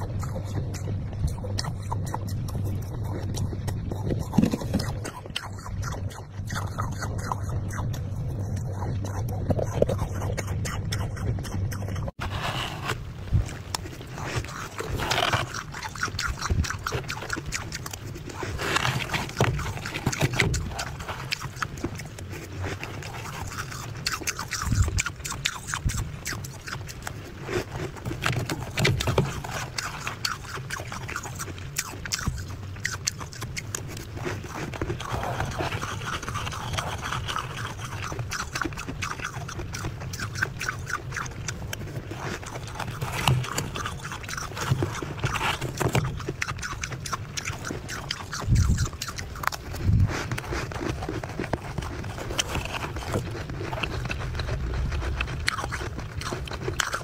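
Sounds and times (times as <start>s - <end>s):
ice crunching when chewed: 0.0s - 57.0s.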